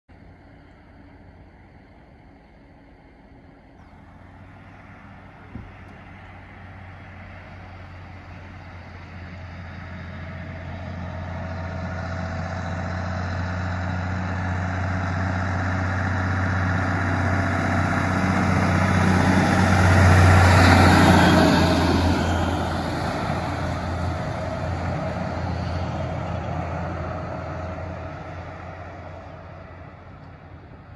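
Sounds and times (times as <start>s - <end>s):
truck engine driving past: 0.1s - 30.9s.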